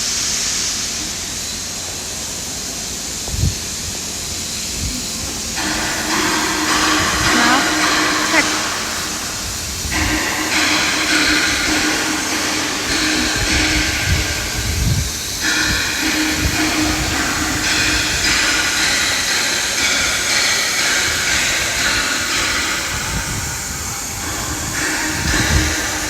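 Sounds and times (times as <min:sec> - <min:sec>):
constant hum: 0:00.0 - 0:26.0
machinery hiss: 0:00.0 - 0:26.0.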